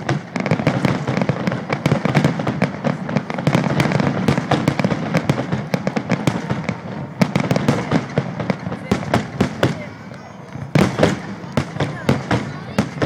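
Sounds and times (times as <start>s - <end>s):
fireworks bangs and crackling pops: 0.0s - 13.0s.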